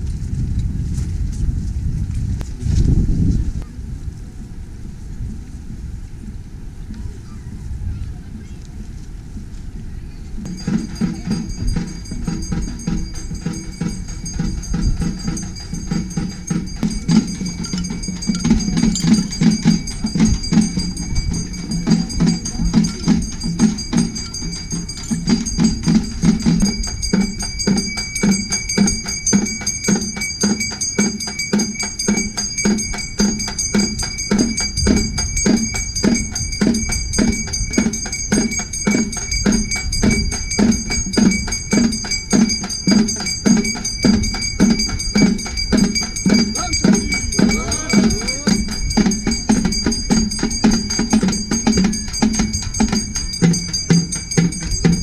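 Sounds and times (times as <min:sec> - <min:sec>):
drums beaten in fast rhythm: 0:10.4 - 0:55.0.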